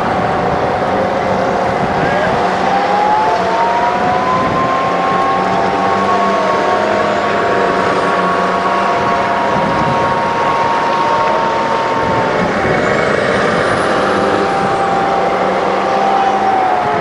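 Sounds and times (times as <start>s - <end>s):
military vehicle engines rumbling: 0.0s - 17.0s.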